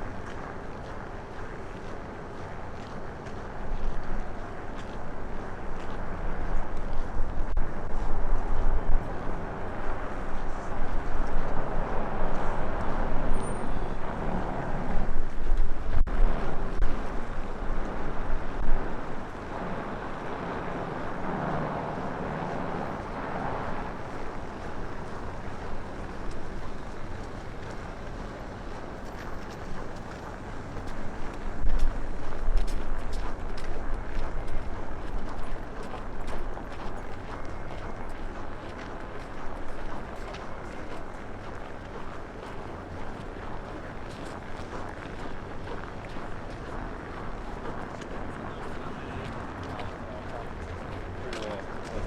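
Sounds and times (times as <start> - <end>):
rushing city background: 0.0 - 52.0
wind buffeting microphone: 0.0 - 52.0.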